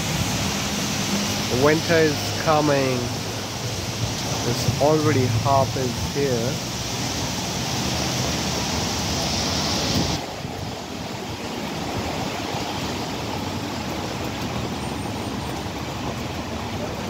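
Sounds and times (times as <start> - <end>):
rain: 0.0 - 17.0
tyres hissing on wet road: 0.0 - 17.0.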